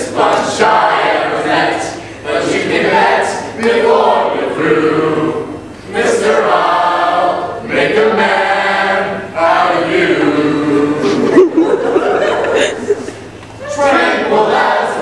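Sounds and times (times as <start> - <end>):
mixed choir singing a cappella: 0.0 - 12.8, 13.6 - 15.0.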